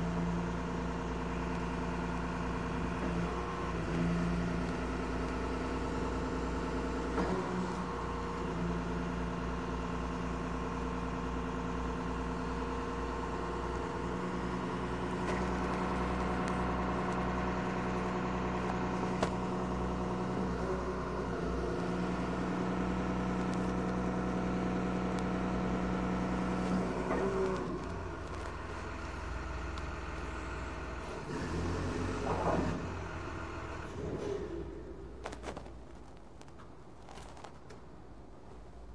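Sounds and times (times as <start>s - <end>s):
forklift engine running: 0.0s - 37.5s.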